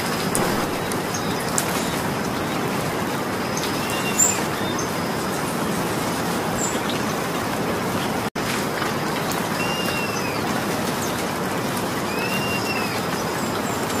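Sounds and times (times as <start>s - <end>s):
steady rain: 1.7s - 14.0s.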